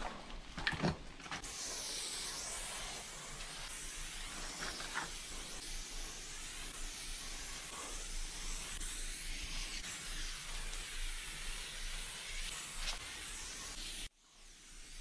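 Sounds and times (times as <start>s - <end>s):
spray paint can hissing: 1.4s - 15.0s.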